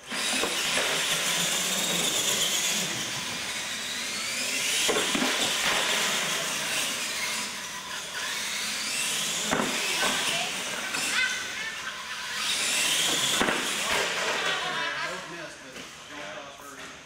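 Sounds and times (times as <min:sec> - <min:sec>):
electric motors whining: 0:00.0 - 0:16.1
tyres hissing on concrete: 0:00.2 - 0:15.3.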